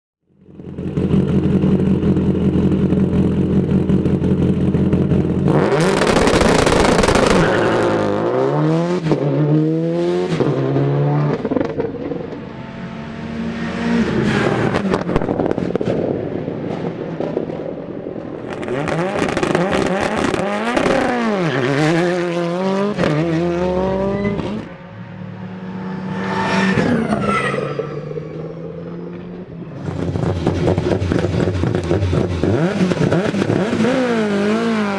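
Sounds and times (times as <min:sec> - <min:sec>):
rally car engine revving: 0:00.7 - 0:34.9
rally cars passing: 0:04.9 - 0:34.9.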